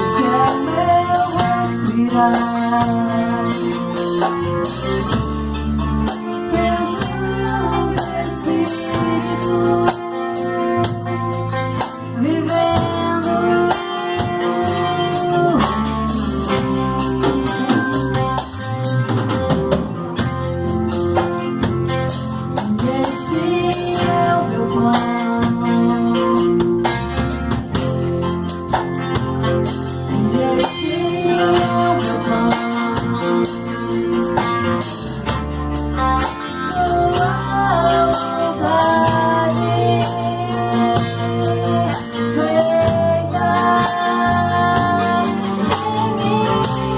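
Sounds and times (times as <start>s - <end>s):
band playing worship song: 0.0s - 46.9s.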